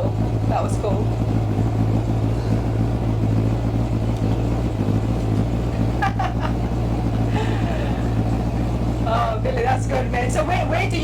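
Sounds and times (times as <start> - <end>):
pickup truck engine droning: 0.0 - 11.0.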